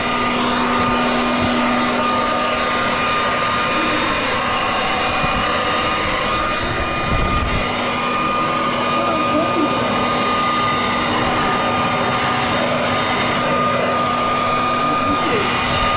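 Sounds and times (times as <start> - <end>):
vacuum cleaner running: 0.0 - 15.9.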